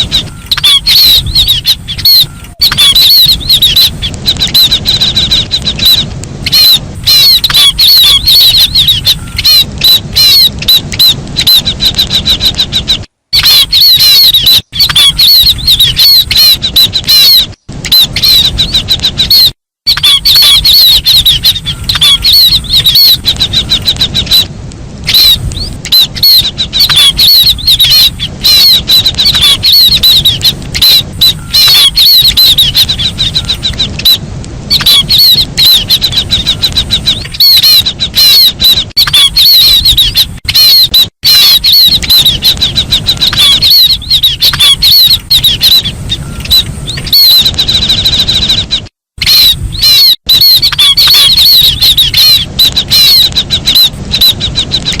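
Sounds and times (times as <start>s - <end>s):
rapid high-pitched bird chirps: 0.0s - 55.0s.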